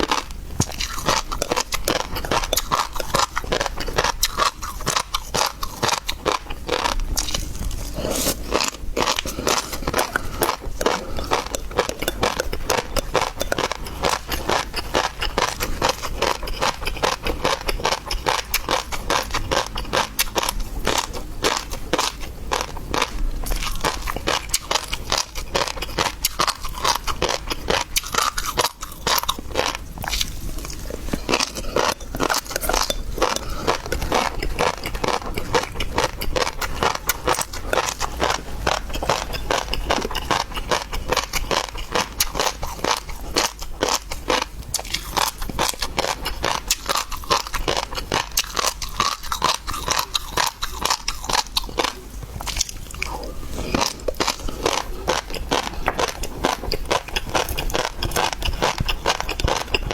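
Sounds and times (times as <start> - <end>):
chewing and crunching seafood: 0.0 - 59.9.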